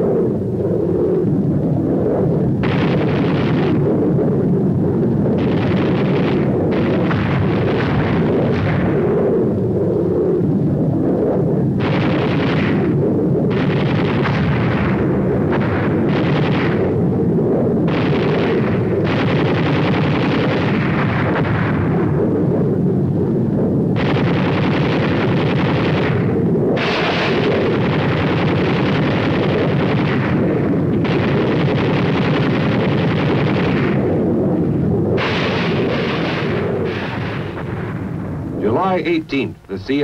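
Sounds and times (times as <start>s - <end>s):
constant rumble: 0.0s - 40.0s
explosions: 0.0s - 40.0s
gunfire: 2.6s - 4.2s, 5.3s - 9.4s, 11.8s - 22.4s, 23.9s - 40.0s.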